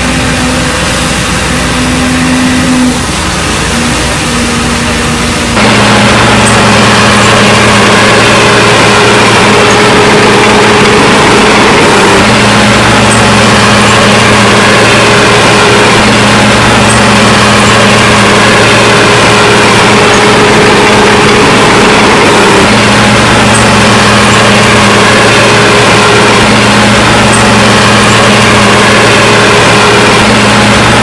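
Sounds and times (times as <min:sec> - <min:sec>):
heavy machine engine running: 0:00.0 - 0:31.0.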